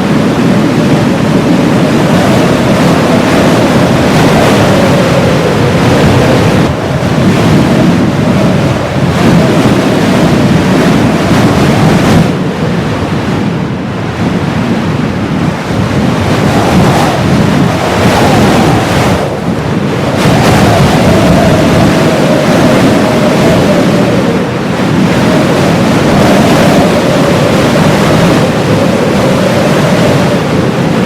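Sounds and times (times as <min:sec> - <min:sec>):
gusting blizzard wind: 0:00.0 - 0:31.0
wavering wind whistle: 0:00.0 - 0:31.0.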